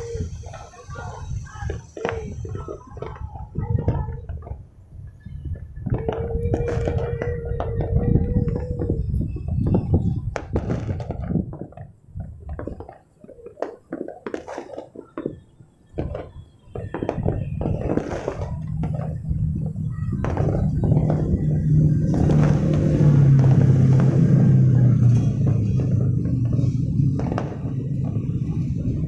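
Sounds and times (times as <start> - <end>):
low rumble of booms: 0.0 - 12.8, 16.0 - 29.0
distant fireworks bangs and crackles: 0.0 - 29.0.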